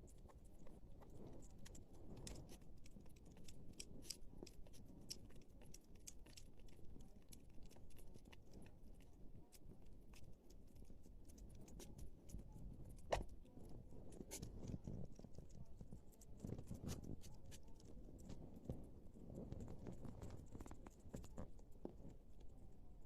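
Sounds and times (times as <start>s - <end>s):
hedgehog chewing food: 0.0s - 23.0s.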